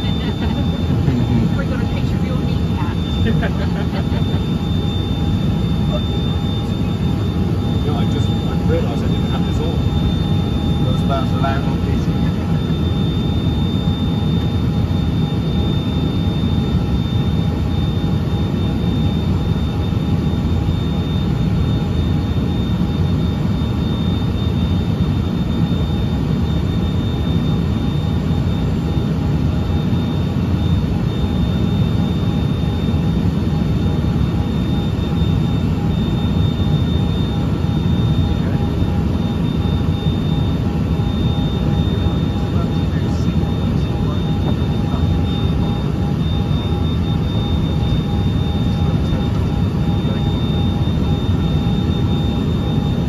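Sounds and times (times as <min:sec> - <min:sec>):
high engine whine: 0:00.0 - 0:53.0
jet cabin rumble: 0:00.0 - 0:53.0.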